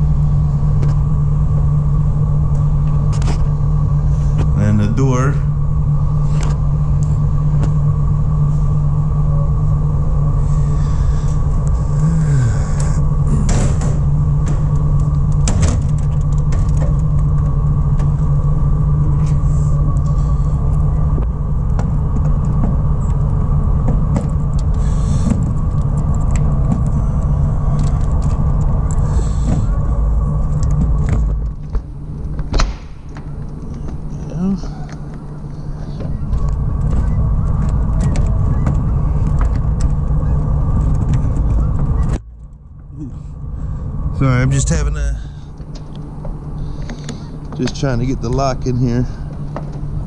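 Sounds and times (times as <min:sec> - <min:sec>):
van engine idling: 0:00.0 - 0:50.0.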